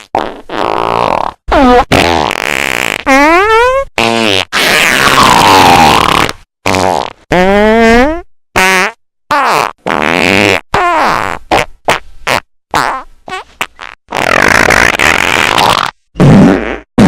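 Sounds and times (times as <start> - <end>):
cartoon fart sound effects: 0.0 - 17.0.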